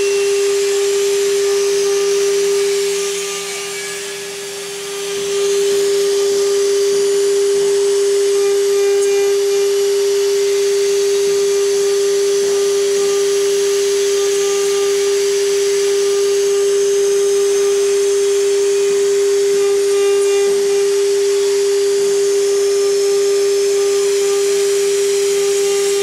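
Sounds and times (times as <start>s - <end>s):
bit carving wood hiss: 0.0s - 26.0s
router spindle high whine: 0.0s - 26.0s.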